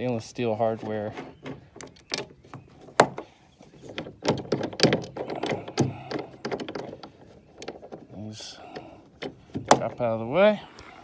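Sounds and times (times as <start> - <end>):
metallic clicks and knocks: 0.0 - 10.2.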